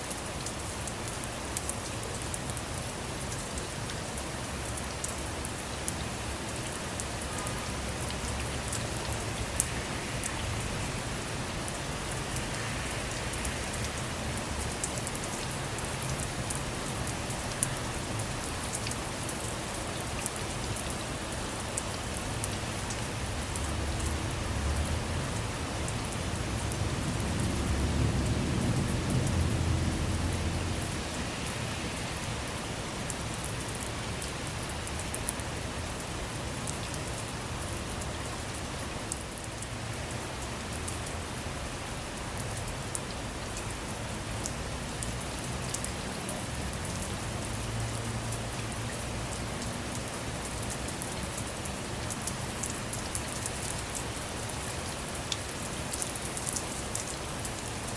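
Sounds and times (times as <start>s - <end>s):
rain falling on a car: 0.0s - 57.9s.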